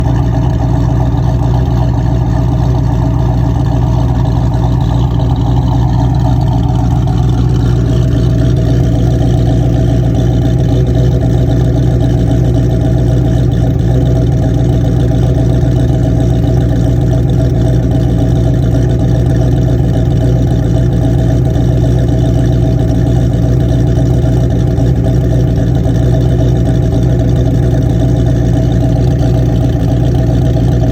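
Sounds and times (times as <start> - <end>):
car engine idling loudly: 0.0 - 30.9.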